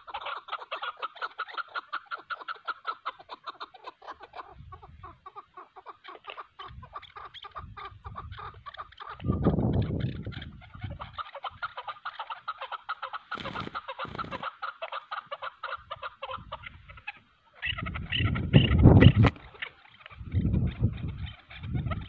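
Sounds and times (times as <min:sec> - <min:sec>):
partridges calling: 0:00.0 - 0:22.0.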